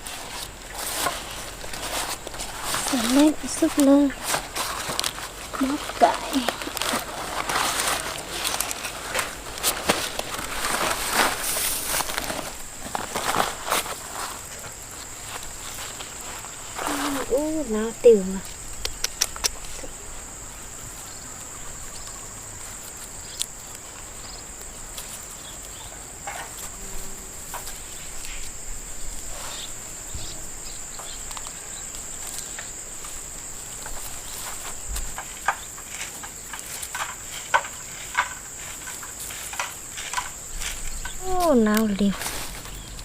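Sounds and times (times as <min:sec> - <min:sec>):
crickets droning: 0:00.0 - 0:43.0.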